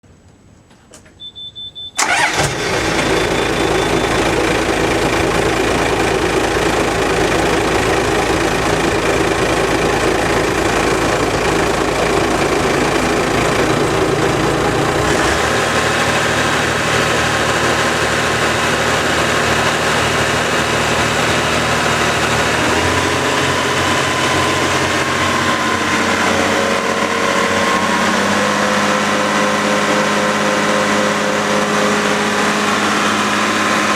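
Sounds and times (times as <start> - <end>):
boat engine starting and running: 2.0 - 33.9.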